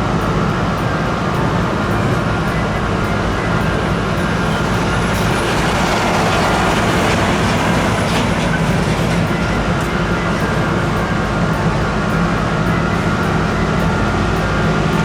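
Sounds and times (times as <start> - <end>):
faint high whining tones: 0.0 - 15.0
moving vehicle rumble: 0.0 - 15.0.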